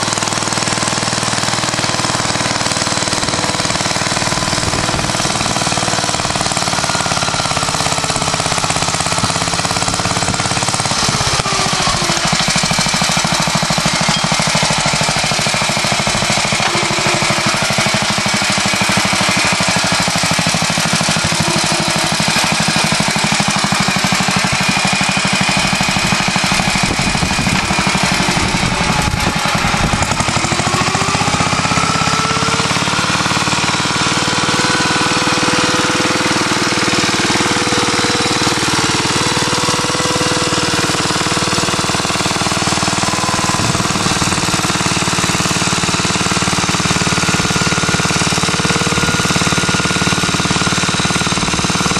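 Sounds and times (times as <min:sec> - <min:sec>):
tractor engine running under load: 0:00.0 - 0:51.9.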